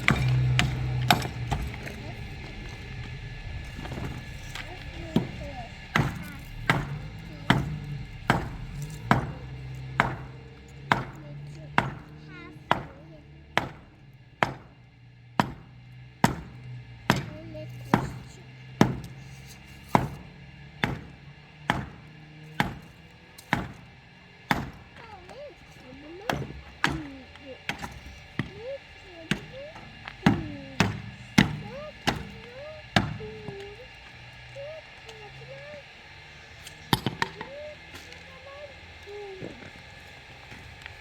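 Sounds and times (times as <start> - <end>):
hand tool striking wood: 0.0 - 14.8, 15.4 - 33.9, 36.6 - 39.8
steady low hum: 0.0 - 41.0.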